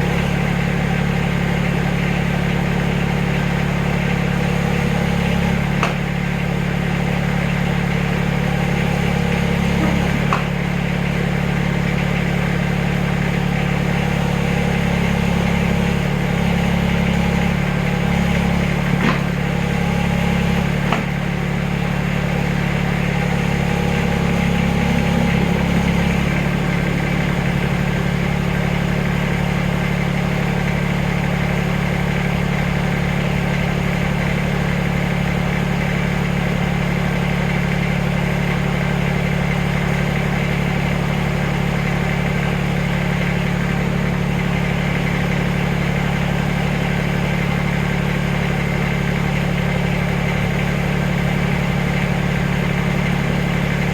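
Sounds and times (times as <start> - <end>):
backhoe engine running: 0.0 - 53.9.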